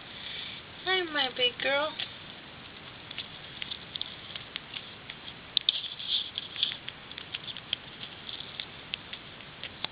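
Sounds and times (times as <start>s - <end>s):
rat clicking and pattering: 1.5s - 9.9s.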